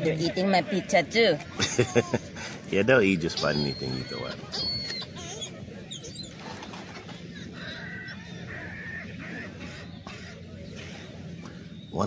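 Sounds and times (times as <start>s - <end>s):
seagulls calling: 0.0s - 12.0s.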